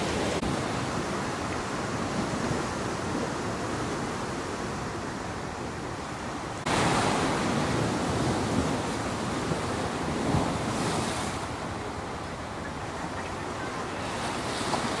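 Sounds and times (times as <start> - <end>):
sea water washing: 0.0 - 15.0.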